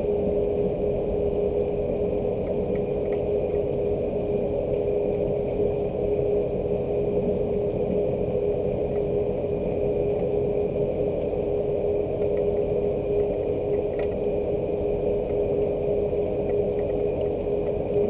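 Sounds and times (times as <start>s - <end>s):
mechanical hum with tone: 0.0s - 18.0s.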